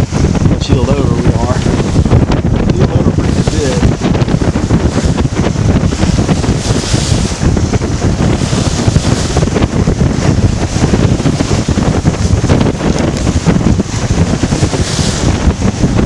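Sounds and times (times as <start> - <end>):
water rushing along boat hull: 0.0 - 16.0
wind buffeting microphone: 0.0 - 16.0.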